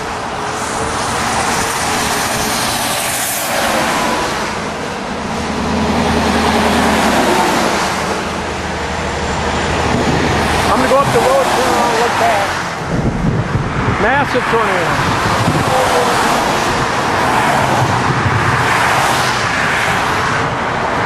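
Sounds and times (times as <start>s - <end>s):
freeway traffic rushing past: 0.0s - 21.0s
truck passing with low rumble: 0.0s - 21.0s.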